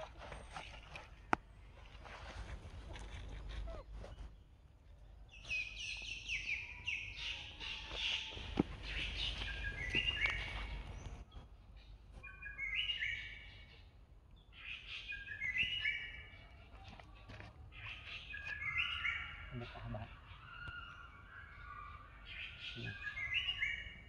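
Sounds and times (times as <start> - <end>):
songbird singing: 2.9 - 24.0.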